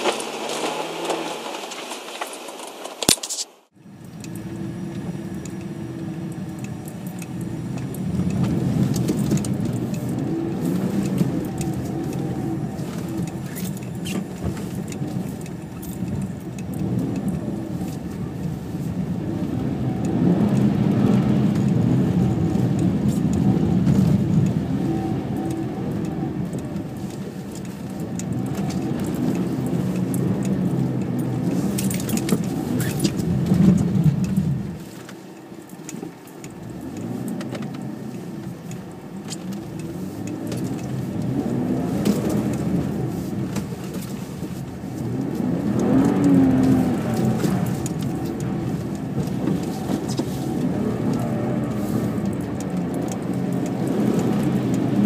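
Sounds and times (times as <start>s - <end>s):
car engine revving: 3.9s - 34.9s, 36.4s - 55.0s.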